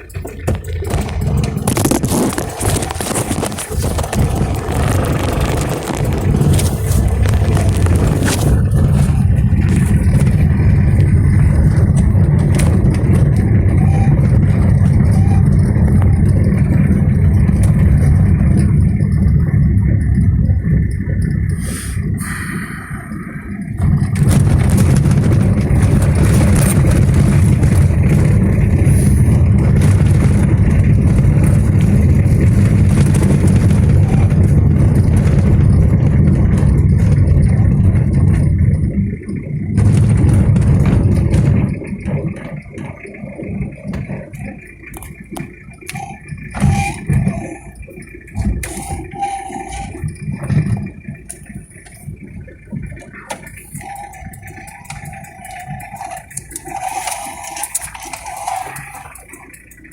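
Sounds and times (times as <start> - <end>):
diesel engine low rumble: 0.0 - 59.9.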